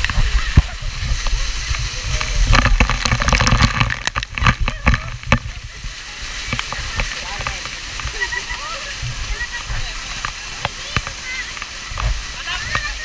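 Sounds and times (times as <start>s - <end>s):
water spattering on camera: 0.0s - 13.0s
waterfall rushing: 0.0s - 13.0s.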